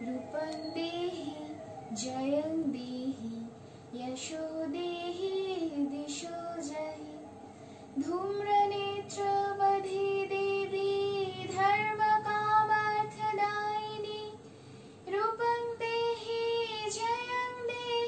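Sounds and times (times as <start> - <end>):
young woman singing: 0.0 - 7.3, 7.9 - 14.4, 15.0 - 18.0.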